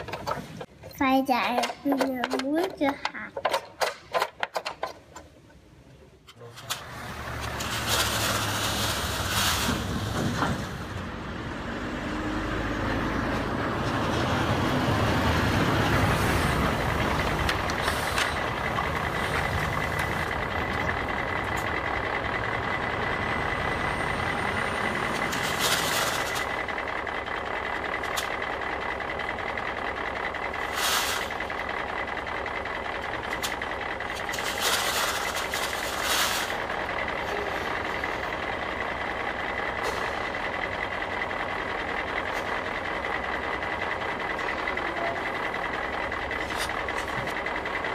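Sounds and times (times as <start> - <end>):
truck-like engine noise: 0.0 - 47.9.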